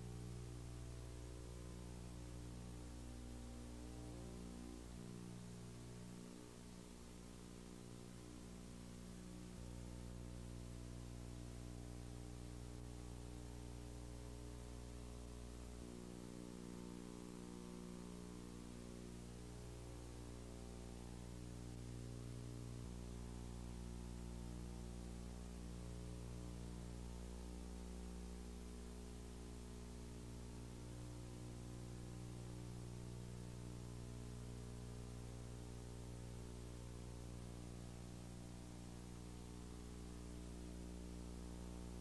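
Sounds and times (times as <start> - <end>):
background hiss: 0.0 - 42.0
electrical mains hum: 0.0 - 42.0.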